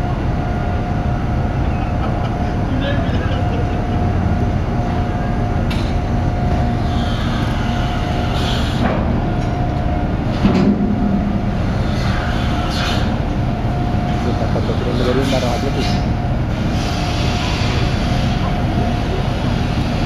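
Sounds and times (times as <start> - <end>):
ship machinery humming: 0.0 - 20.0.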